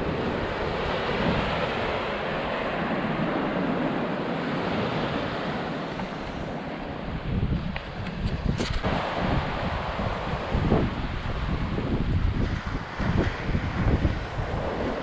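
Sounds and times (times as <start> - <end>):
waves washing onto sandy beach: 0.0 - 15.0.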